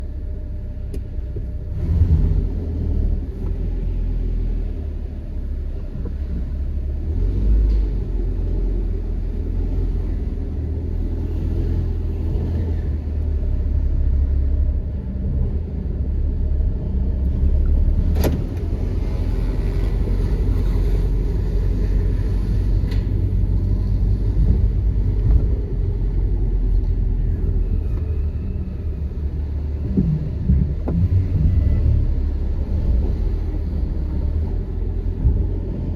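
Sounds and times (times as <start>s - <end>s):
car engine low rumble: 0.0s - 35.9s.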